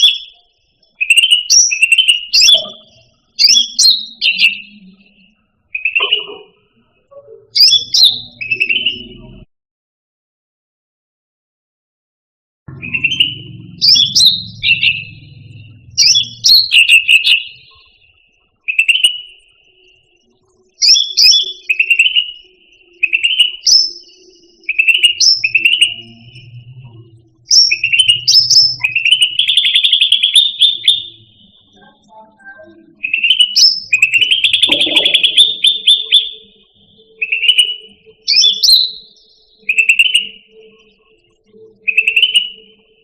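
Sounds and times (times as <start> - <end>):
bird whistled chirps: 0.0 - 9.4, 12.7 - 26.7, 27.4 - 42.9.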